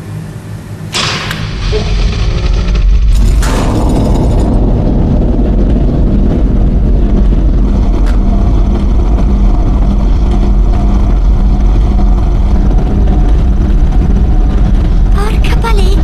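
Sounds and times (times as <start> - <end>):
heavy engine-like rumble: 0.0 - 16.0
pulsing low hum: 0.0 - 16.0.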